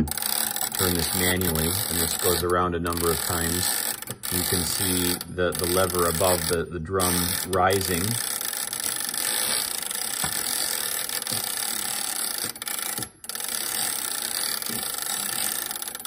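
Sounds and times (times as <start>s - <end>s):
clock gear train clicking: 0.0s - 16.0s.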